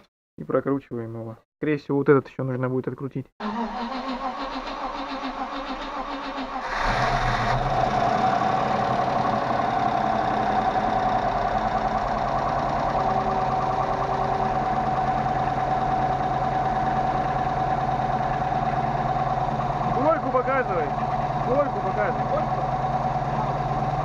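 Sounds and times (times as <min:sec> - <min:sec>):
car engine starting and running: 0:03.4 - 0:24.0.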